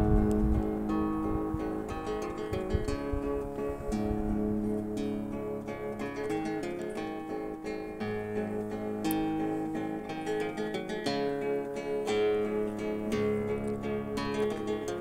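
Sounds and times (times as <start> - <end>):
fingerpicked classical guitar waltz: 0.0 - 15.0.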